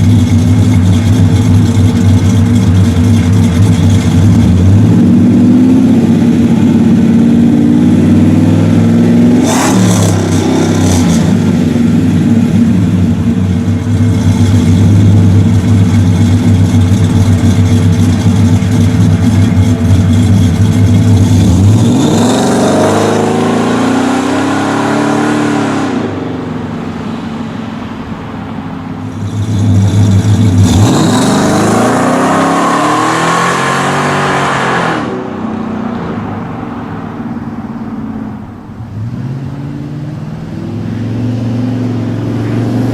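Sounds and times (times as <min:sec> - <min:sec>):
truck exhaust rumbling and revving: 0:00.0 - 0:42.9.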